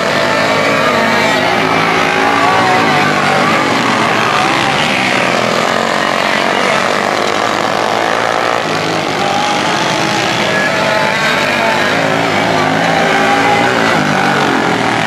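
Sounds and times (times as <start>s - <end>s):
racing kart engines buzzing: 0.0s - 15.0s.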